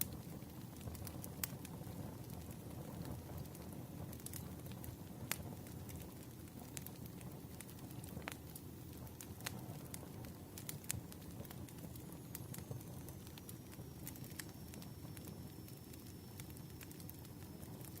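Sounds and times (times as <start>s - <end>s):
campfire burning: 0.0s - 18.0s
fire pops and snaps: 0.0s - 18.0s.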